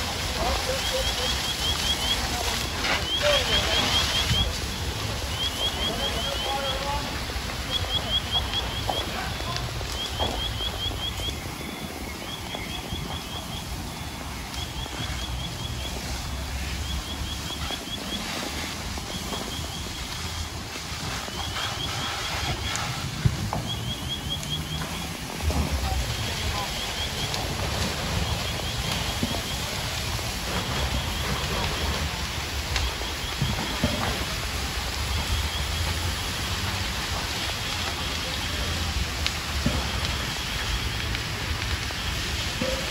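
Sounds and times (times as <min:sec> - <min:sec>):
hoses spraying water: 0:00.0 - 0:42.9.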